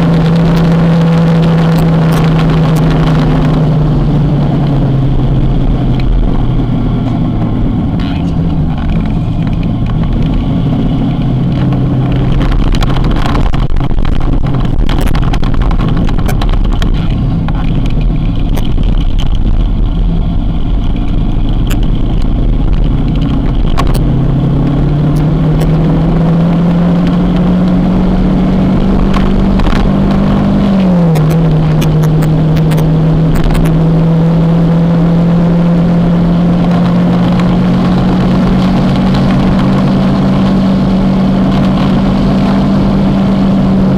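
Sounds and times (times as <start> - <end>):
motorcycle engine running: 0.0 - 43.9
wind on microphone: 0.0 - 43.9.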